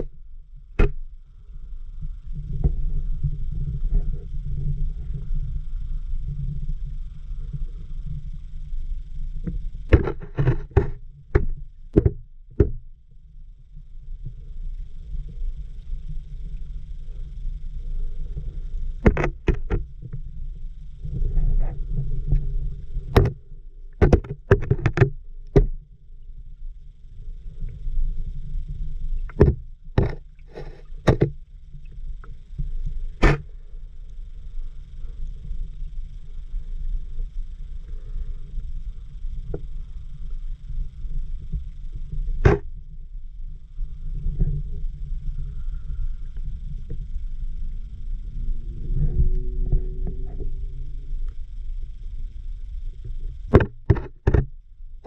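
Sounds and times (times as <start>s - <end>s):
muffled underwater rumble: 0.0s - 55.0s.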